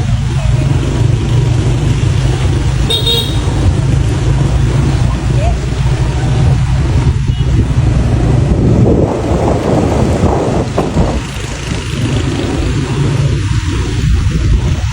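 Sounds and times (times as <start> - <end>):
vehicle engine rumbling: 0.0 - 14.9
wind on microphone: 0.0 - 14.9.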